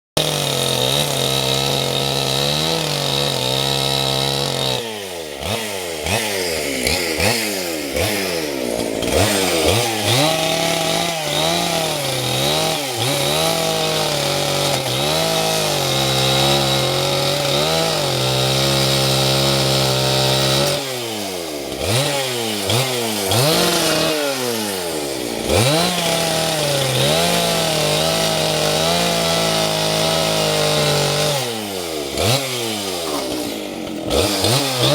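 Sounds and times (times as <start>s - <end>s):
chainsaw cutting wood: 0.1s - 34.9s
chainsaw throttle blipping: 0.2s - 34.9s.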